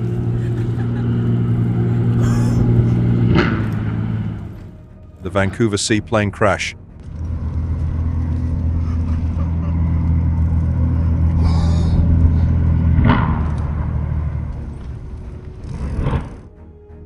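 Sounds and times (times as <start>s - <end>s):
seaplane engine droning: 0.0s - 5.7s, 6.4s - 17.0s.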